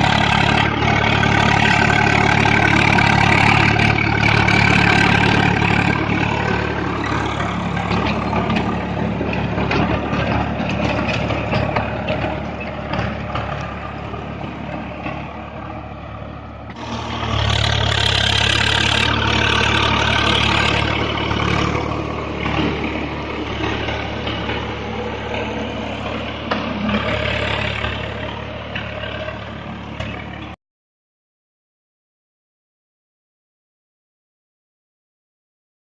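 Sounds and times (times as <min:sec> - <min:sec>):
tractor diesel engine running: 0:00.0 - 0:30.6.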